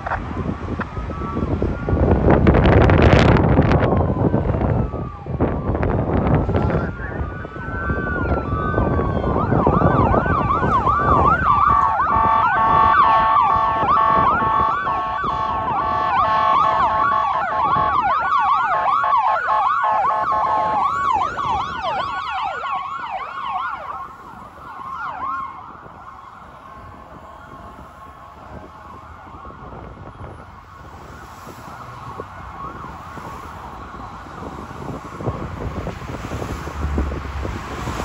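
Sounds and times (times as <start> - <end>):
ambulance siren wailing and yelping: 0.0 - 38.0
engine and road rumble: 0.0 - 38.0.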